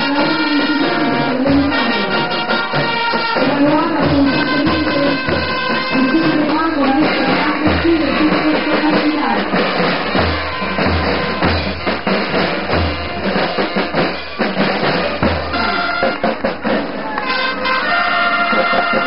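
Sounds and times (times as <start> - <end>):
bass drums and snare drums: 0.0 - 19.0
brass notes held: 0.0 - 19.0.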